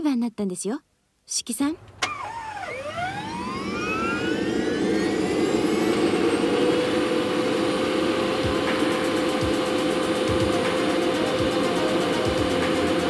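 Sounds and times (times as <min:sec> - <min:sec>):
gas turbine engine whine: 0:01.8 - 0:13.0.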